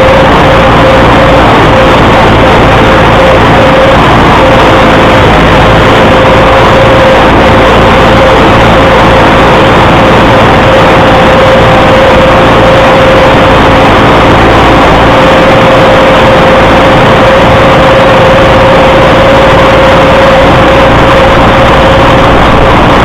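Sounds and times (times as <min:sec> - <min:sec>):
diesel tractor engine running: 0:00.0 - 0:23.0
steady whine: 0:00.0 - 0:23.0.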